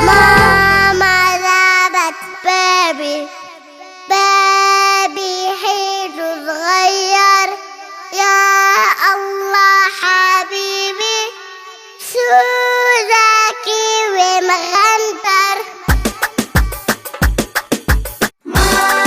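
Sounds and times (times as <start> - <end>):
child singing unaccompanied: 0.0 - 17.0.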